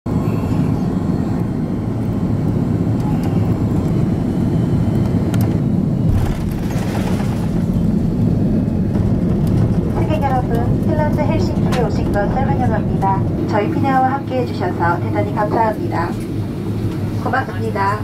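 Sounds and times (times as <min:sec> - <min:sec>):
airflow in cabin: 0:00.1 - 0:18.0
jet engines rumbling: 0:00.1 - 0:18.0
plane wheels rolling on runway: 0:00.4 - 0:17.8.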